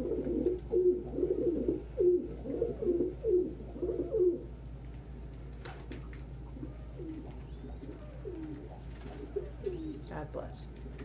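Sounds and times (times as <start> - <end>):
pigeons cooing: 0.0 - 4.6, 5.9 - 11.0.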